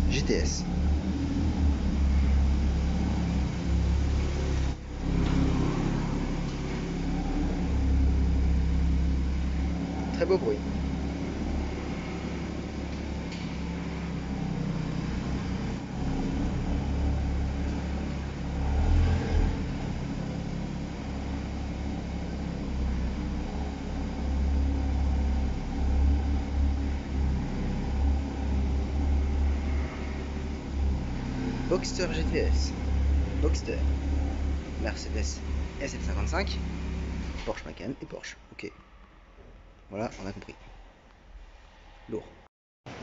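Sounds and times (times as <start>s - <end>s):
car engine idling: 0.0s - 38.2s.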